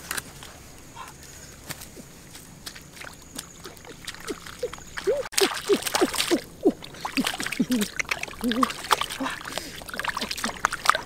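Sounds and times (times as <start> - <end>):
water sloshing and splashing: 1.7 - 11.0.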